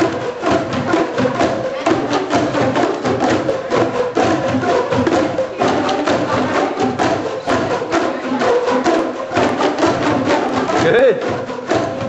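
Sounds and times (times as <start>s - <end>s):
plastic tubes struck in rhythm: 0.0s - 12.0s.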